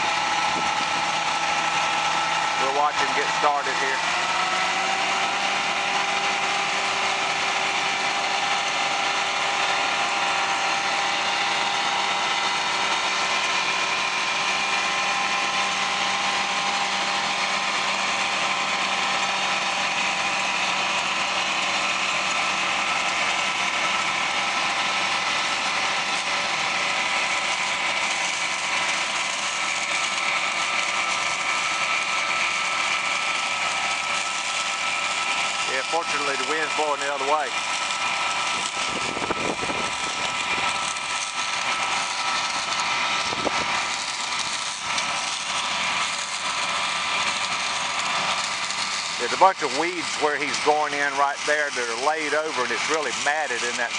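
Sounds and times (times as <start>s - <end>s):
combine harvester droning: 0.0s - 53.9s.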